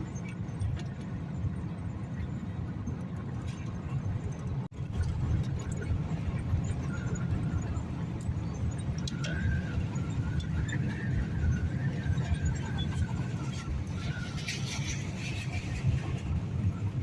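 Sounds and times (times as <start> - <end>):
storm wind buffeting microphone: 0.0 - 17.0.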